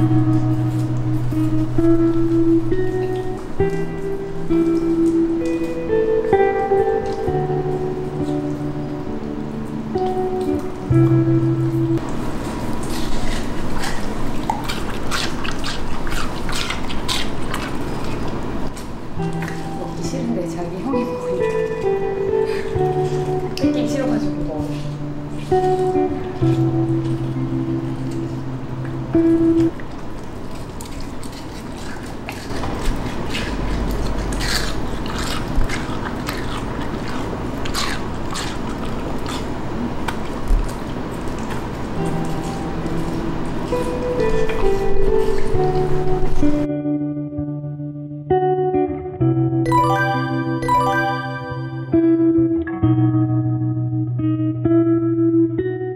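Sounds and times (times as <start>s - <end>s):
dog chewing watermelon: 0.0s - 46.7s.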